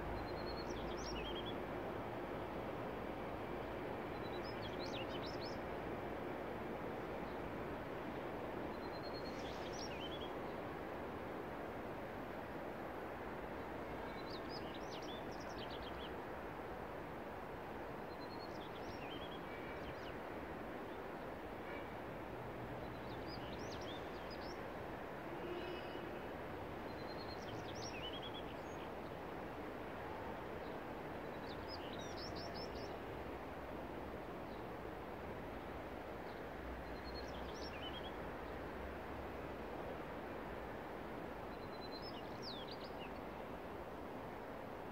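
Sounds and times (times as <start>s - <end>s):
outdoor background hiss: 0.0s - 44.9s.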